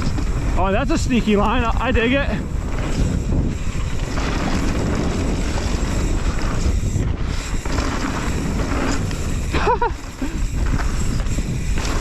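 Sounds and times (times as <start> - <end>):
tyres rumbling on dirt: 0.0 - 12.0
wind rushing over microphone: 0.0 - 12.0.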